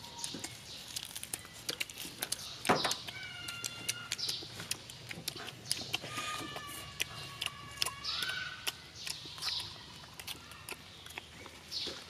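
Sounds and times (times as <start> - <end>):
wet lip-smacking and chewing: 0.0 - 12.0.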